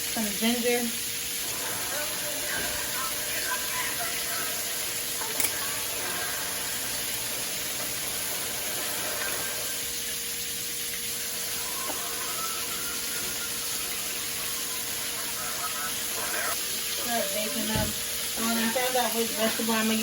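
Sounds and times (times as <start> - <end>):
sauce sizzling in a pan: 0.0 - 20.0.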